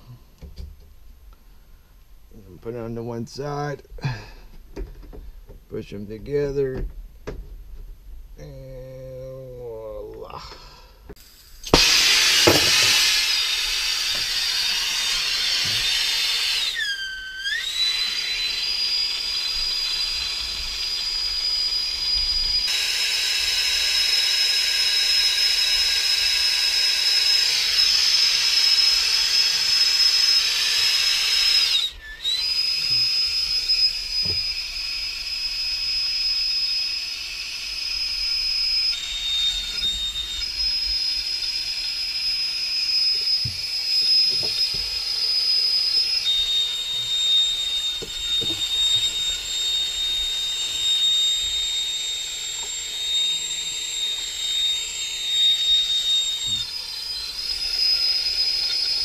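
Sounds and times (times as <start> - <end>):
gas torch hissing with whistle: 11.2 - 59.0.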